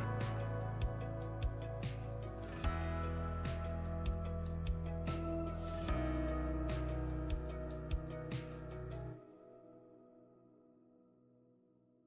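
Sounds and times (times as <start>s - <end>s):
instrumental background music: 0.0s - 9.9s.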